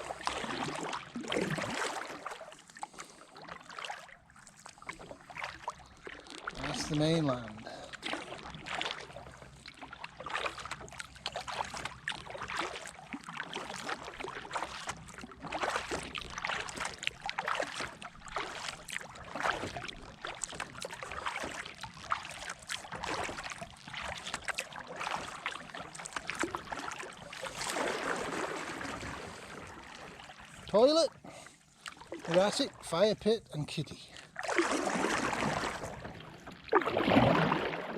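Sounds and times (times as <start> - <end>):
paddle strokes dipping: 0.0 - 37.9
water slapping hull: 0.0 - 37.9.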